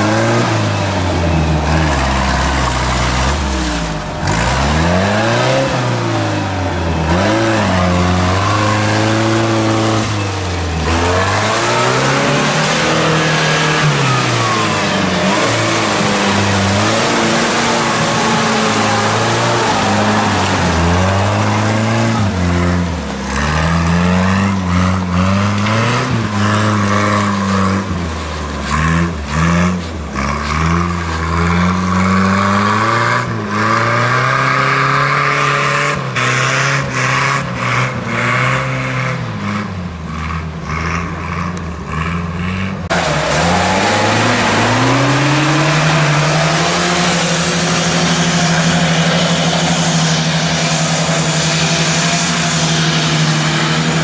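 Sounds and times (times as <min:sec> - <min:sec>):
off-road vehicle engines revving: 0:00.0 - 0:54.0.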